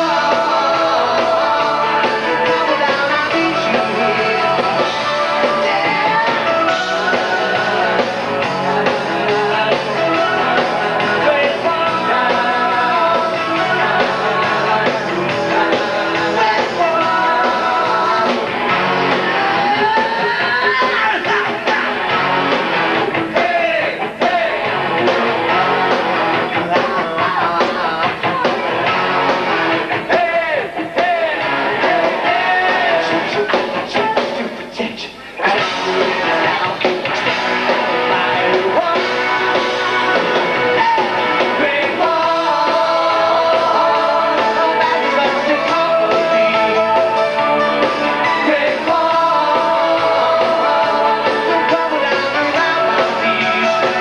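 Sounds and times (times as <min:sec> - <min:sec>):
electric guitar: 0:00.0 - 0:34.6, 0:35.2 - 0:54.0
live rock band playing: 0:00.0 - 0:54.0.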